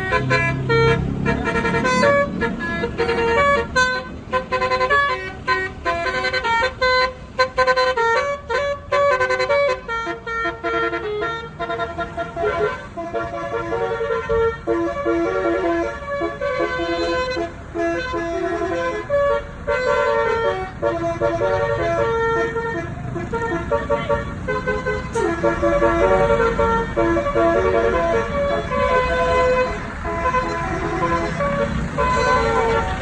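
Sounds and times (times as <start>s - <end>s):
bus multi-tone horn playing a tune: 0.0s - 33.0s.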